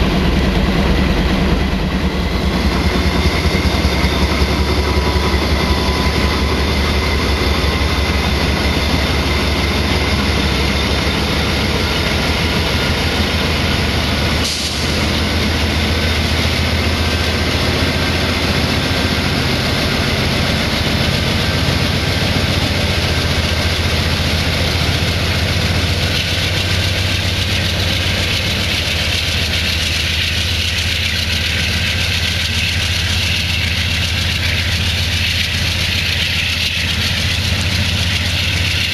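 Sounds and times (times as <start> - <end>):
locomotive engines droning: 0.0 - 38.9.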